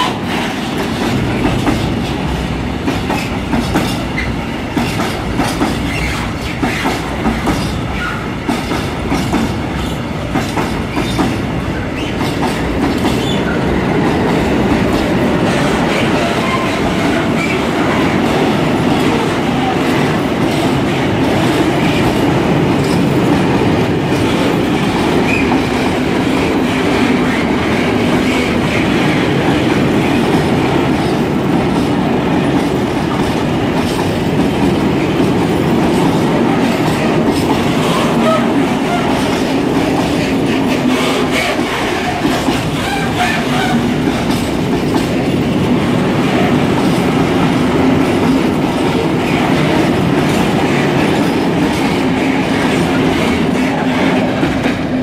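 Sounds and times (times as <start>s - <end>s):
freight train rumble: 0.0s - 55.0s
train wheels clicking over rail joints: 0.0s - 55.0s.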